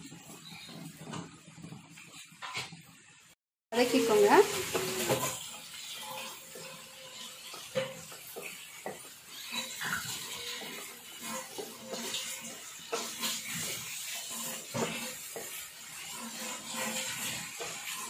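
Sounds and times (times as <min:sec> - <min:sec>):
wooden spatula scraping a pan: 0:00.0 - 0:03.0, 0:03.8 - 0:18.0
food sizzling in hot oil: 0:00.0 - 0:18.0.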